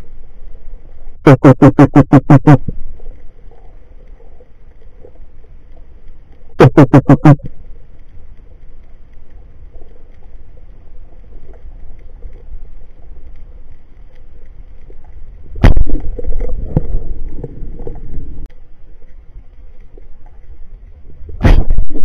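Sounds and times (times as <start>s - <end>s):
underwater low rumble: 0.0s - 1.2s, 1.8s - 22.0s.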